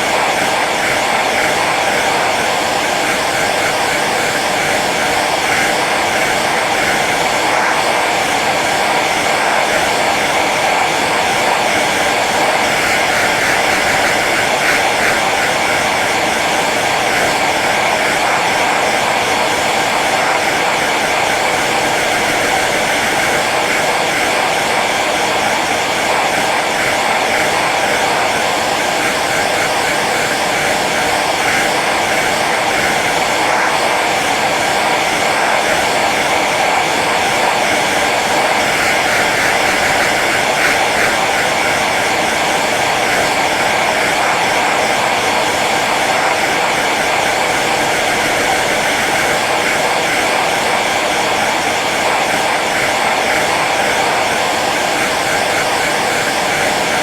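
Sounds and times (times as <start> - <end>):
hair dryer blowing air: 0.0 - 57.0.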